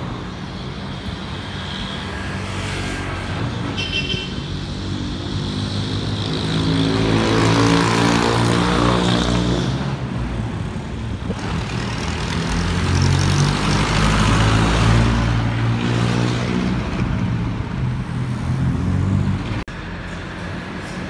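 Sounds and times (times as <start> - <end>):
tyre and road noise: 0.0 - 21.0.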